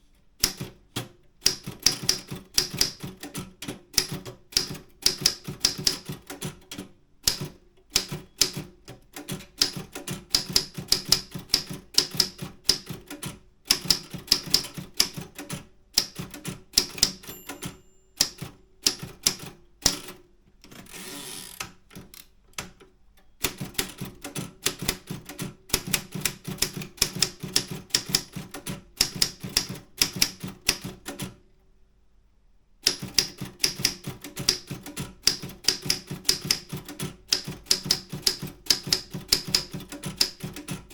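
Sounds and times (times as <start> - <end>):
typewriter key strikes: 0.4 - 20.0, 23.4 - 31.4, 32.8 - 40.9.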